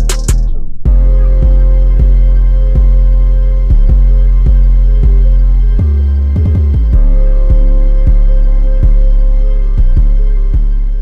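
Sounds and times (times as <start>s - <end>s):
deep bass note: 0.0s - 11.0s
soft beat: 0.0s - 11.0s.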